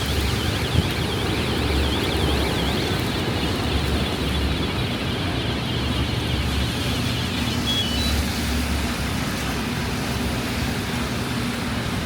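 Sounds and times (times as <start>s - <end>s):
rain hissing on wet road: 0.0s - 12.0s
traffic engines rumbling: 0.0s - 12.0s.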